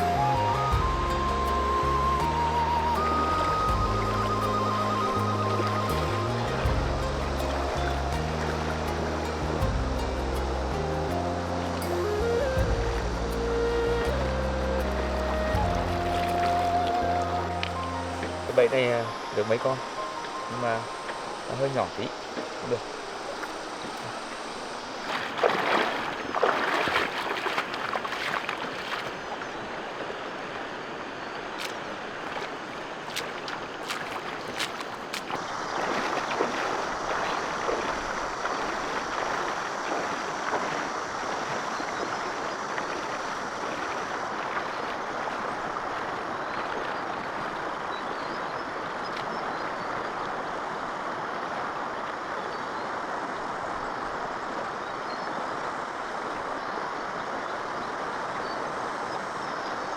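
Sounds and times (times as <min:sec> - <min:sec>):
flowing stream water: 0:00.0 - 0:59.9
water splashing and sloshing: 0:00.0 - 0:59.9.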